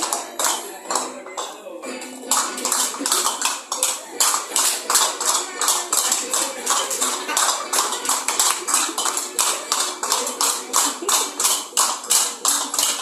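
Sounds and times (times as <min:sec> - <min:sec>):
sharp rhythmic taps: 0:00.0 - 0:01.5, 0:02.3 - 0:13.0
faint folk dance music: 0:00.0 - 0:13.0.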